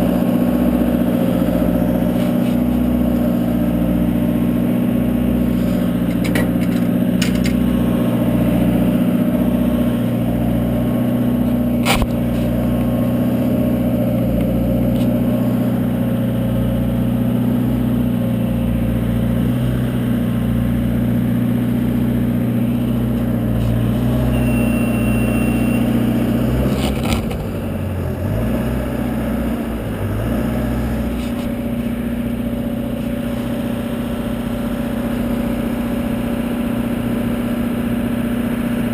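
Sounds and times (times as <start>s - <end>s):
boom lift engine running: 0.0s - 38.9s.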